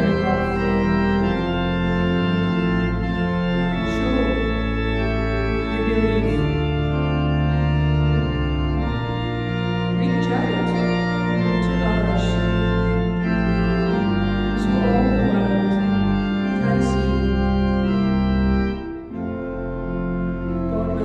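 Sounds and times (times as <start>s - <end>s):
church organ playing chords: 0.0s - 21.0s.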